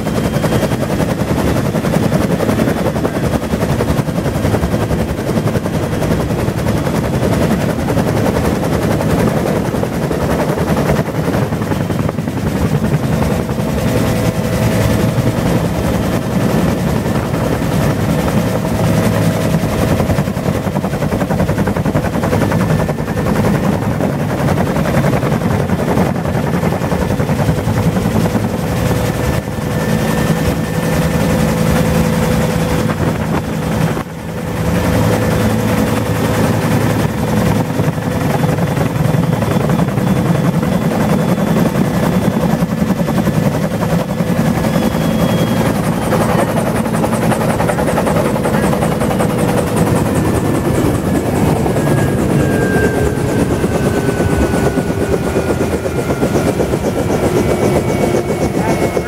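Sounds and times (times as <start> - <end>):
helicopter rotor blades beating: 0.0 - 59.0
turbine whine: 0.0 - 59.0.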